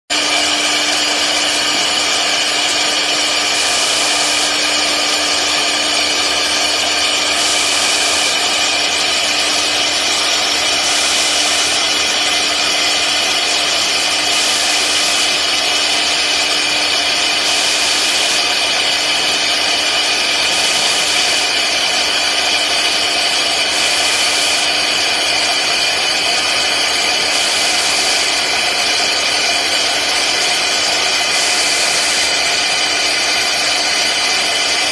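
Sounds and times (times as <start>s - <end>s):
end mill cutting acrylic: 0.1s - 34.9s
router spindle whine: 0.1s - 34.9s.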